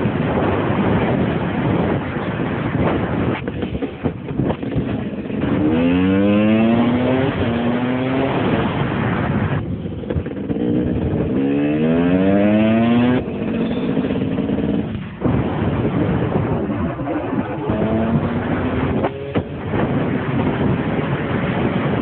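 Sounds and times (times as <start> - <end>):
dirt bike engine accelerating: 0.0 - 22.0.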